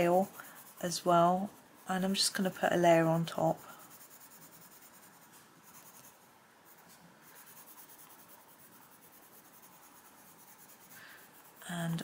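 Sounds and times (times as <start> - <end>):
pencil scratching on paper: 0.0 - 12.0.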